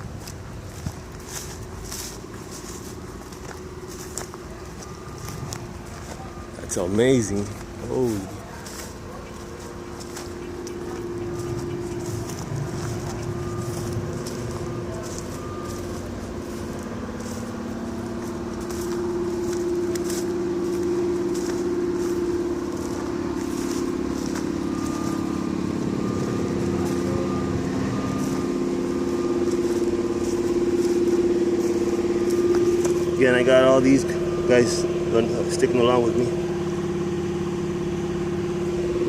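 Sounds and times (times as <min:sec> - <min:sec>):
footsteps on gravel: 0:00.0 - 0:36.8
vehicle engine humming: 0:00.0 - 0:39.0.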